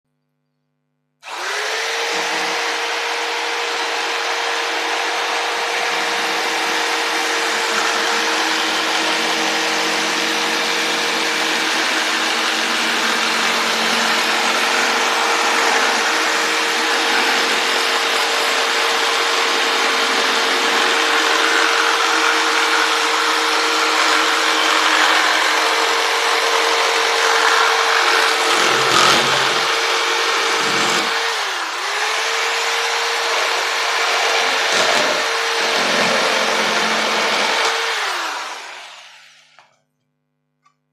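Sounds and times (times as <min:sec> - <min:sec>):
electric jigsaw sawing wood: 0:01.2 - 0:39.8.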